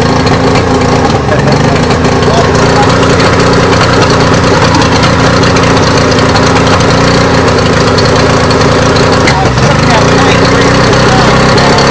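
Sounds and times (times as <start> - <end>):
outboard motor idling roughly: 0.0 - 11.9.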